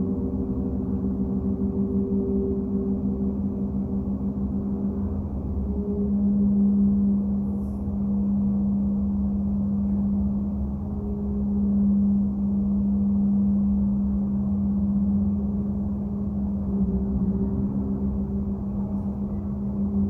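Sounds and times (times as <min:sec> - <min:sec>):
monochord drone: 0:00.0 - 0:20.0.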